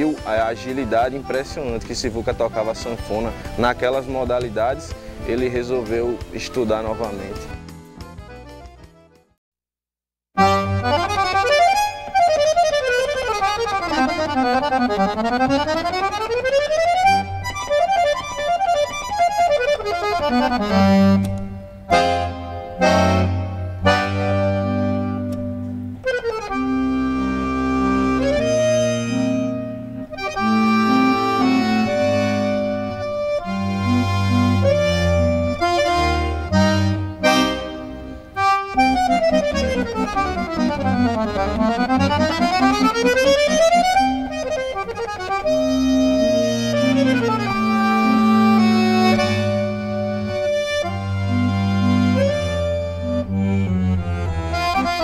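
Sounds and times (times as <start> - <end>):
piano accordion playing: 0.0 - 9.4, 10.4 - 55.0.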